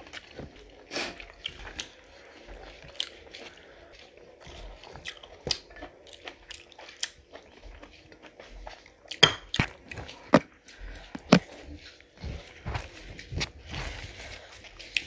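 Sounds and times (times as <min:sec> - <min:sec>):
chewing and lip smacks: 0:00.0 - 0:15.0.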